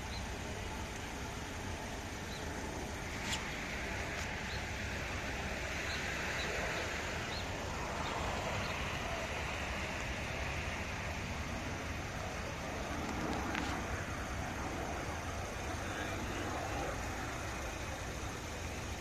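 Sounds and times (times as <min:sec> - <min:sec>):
jet engine rush: 0:00.0 - 0:19.0.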